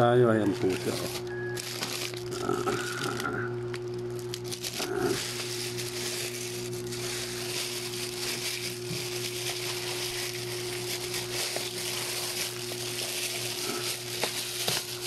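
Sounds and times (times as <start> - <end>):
plastic mailer bag crinkling: 0.2 - 15.0.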